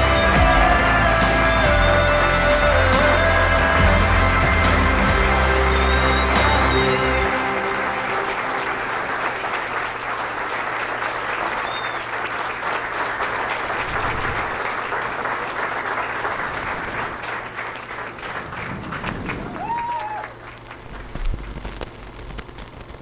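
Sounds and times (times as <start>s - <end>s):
crowd applauding: 0.0s - 21.6s.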